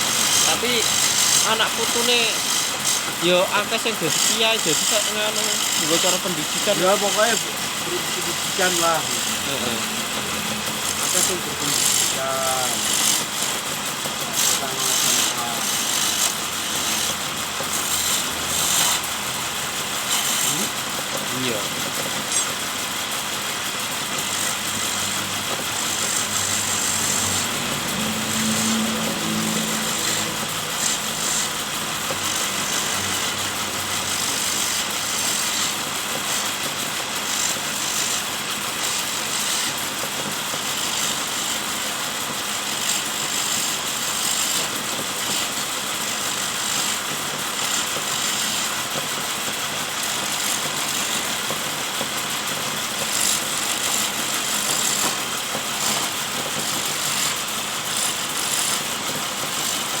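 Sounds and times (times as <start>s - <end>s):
wood lathe motor running: 0.0s - 60.0s.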